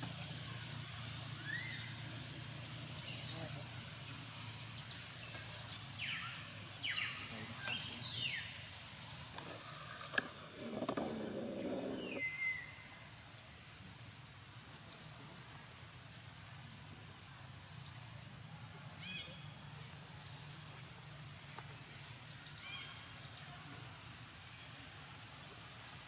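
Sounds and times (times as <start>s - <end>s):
low noise: 0.0s - 26.0s.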